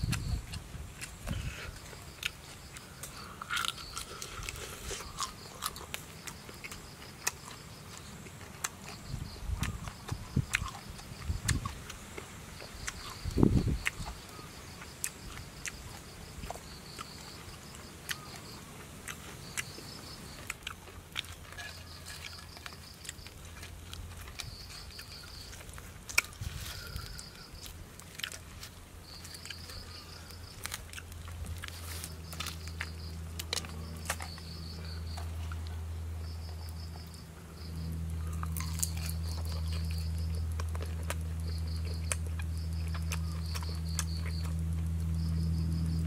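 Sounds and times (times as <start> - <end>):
insects trilling: 0.0 - 46.0
person chewing crunchy food: 0.0 - 46.0.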